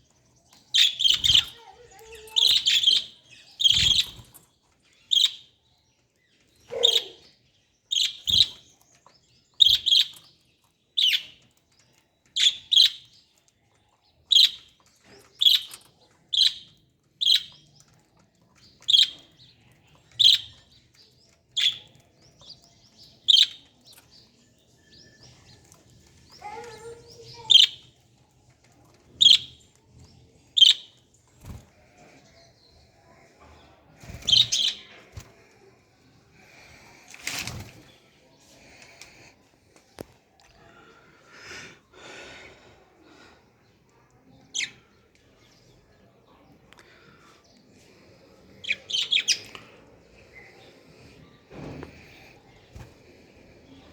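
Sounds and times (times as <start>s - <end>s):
lovebirds chirping: 0.0s - 53.9s.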